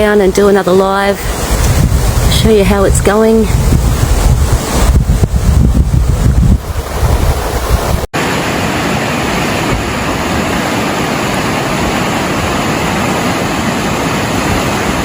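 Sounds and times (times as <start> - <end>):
wind buffeting microphone: 0.0 - 8.1, 8.8 - 15.0
floodwater rushing: 0.0 - 15.0.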